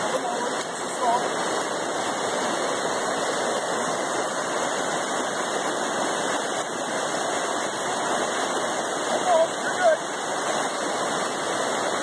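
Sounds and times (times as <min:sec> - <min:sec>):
river water running: 0:00.0 - 0:12.0.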